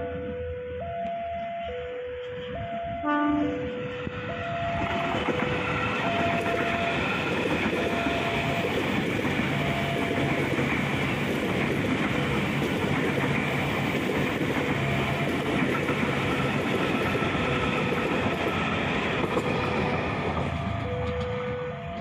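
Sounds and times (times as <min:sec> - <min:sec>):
train wheels on rails: 0:01.0 - 0:22.0.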